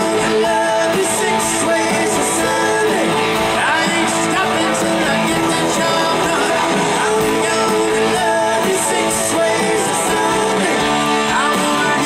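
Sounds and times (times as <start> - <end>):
gliding guitar lead line: 0.0 - 12.0
rock band playing live: 0.0 - 12.0.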